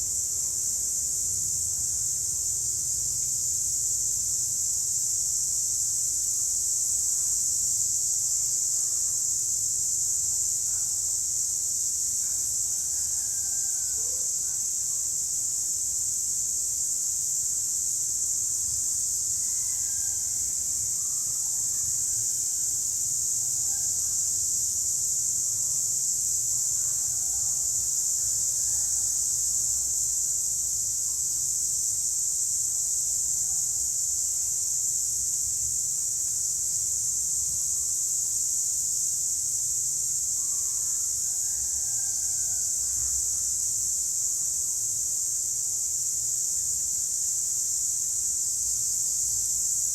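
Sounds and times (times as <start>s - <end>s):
cicadas droning: 0.0s - 49.9s.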